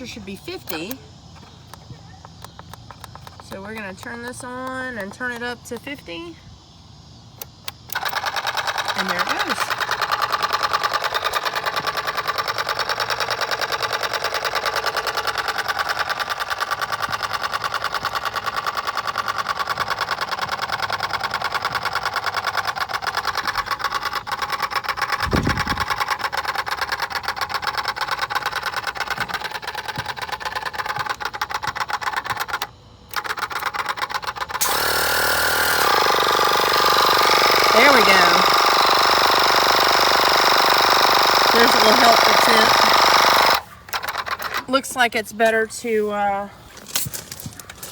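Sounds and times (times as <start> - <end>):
tire inflator compressor buzzing: 0.0 - 47.9.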